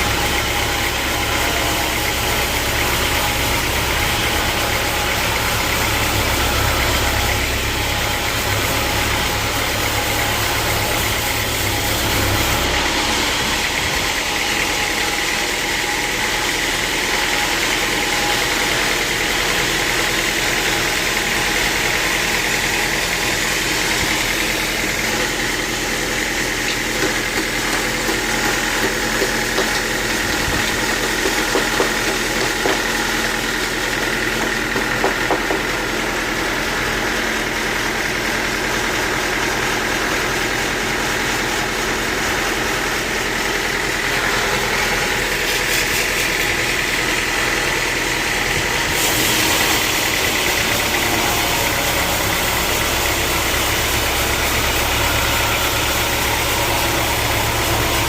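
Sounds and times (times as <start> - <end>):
sawmill machinery whining: 0.0 - 58.0.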